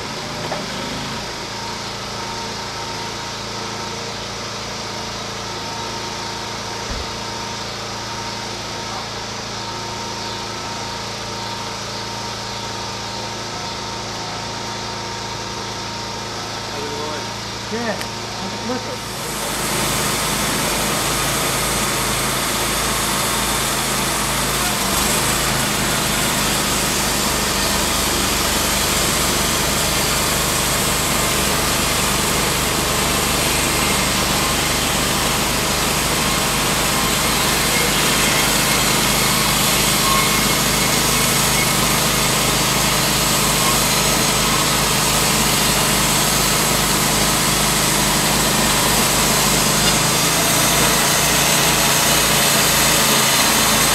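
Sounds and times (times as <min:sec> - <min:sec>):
band sawmill engine under load: 0:00.0 - 0:53.9.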